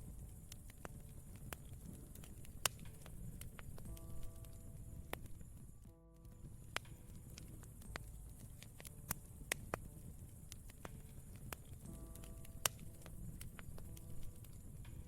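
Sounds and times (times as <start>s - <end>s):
campfire wood crackling: 0.0s - 15.0s
faint piano chords: 0.0s - 15.0s
low rumble of fire: 0.0s - 15.0s.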